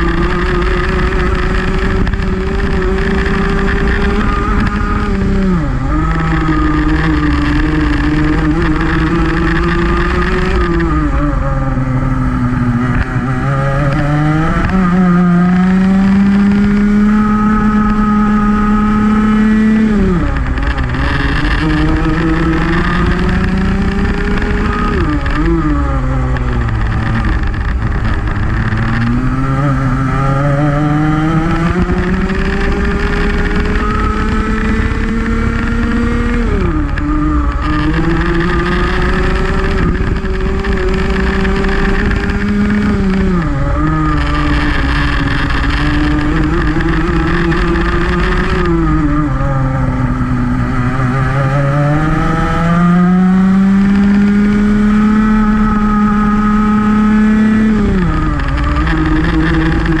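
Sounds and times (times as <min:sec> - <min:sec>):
kart engine racing: 0:00.0 - 1:00.0.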